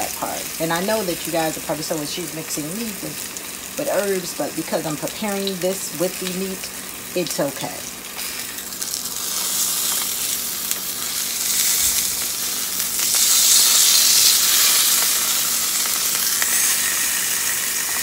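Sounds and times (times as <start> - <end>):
fish sizzling on grill plate: 0.0 - 18.0.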